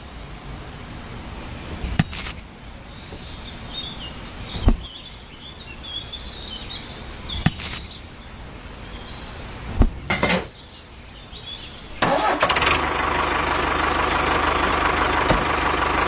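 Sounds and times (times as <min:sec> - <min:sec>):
birds chirping: 0:00.0 - 0:12.4, 0:13.1 - 0:16.0
steady outdoor noise: 0:00.0 - 0:16.0.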